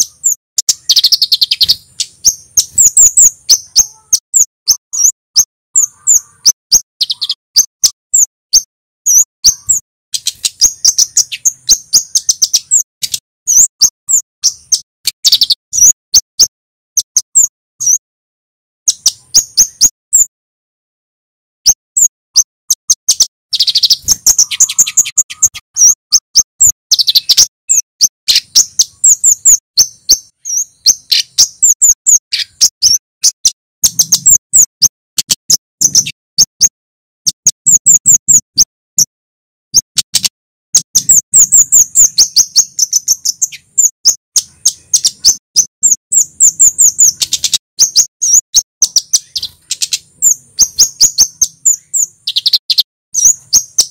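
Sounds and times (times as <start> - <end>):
bird high chirps and trills: 0.0 - 18.0, 18.8 - 20.3, 21.6 - 53.9.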